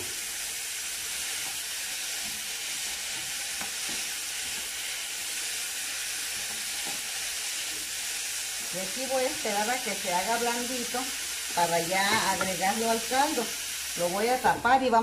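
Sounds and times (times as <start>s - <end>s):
rice sizzling in hot oil: 0.0s - 15.0s.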